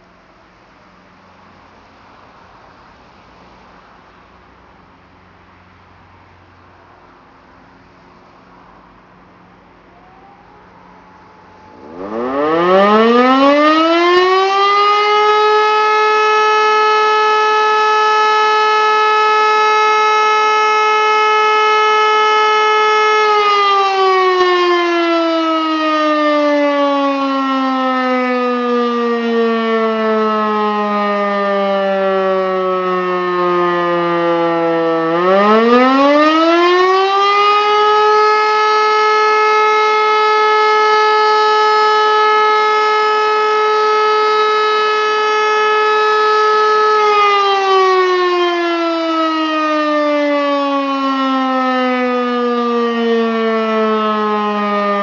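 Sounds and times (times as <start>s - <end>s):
electric motor siren howling: 9.2s - 55.0s.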